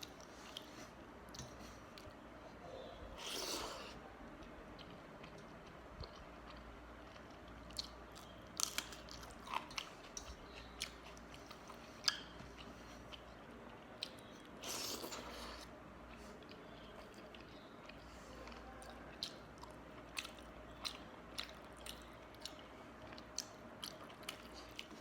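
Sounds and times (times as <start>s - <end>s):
person chewing food: 3.2s - 25.0s.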